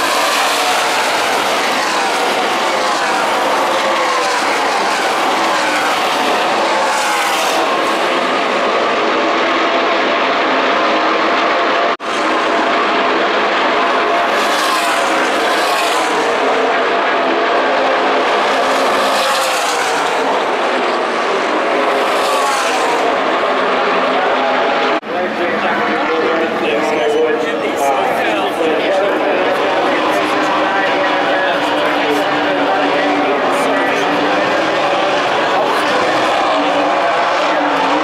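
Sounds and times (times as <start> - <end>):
race truck engines passing: 0.0 - 38.0.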